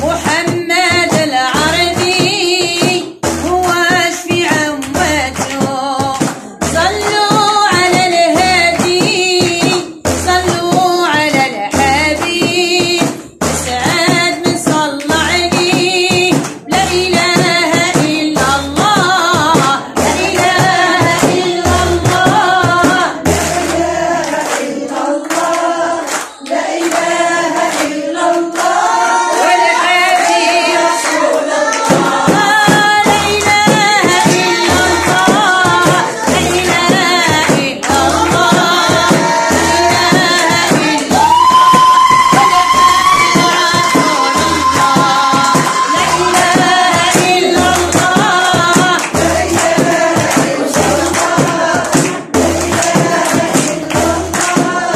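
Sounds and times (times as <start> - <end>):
frame drum beat: 0.0 - 54.9
woman singing: 0.0 - 54.9.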